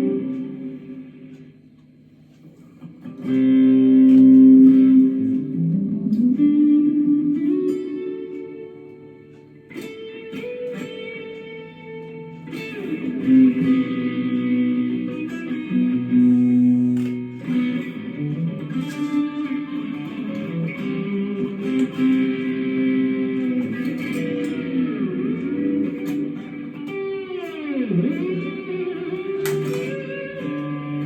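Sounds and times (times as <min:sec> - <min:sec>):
electric guitar notes and chords: 0:00.0 - 0:01.7, 0:02.4 - 0:31.0.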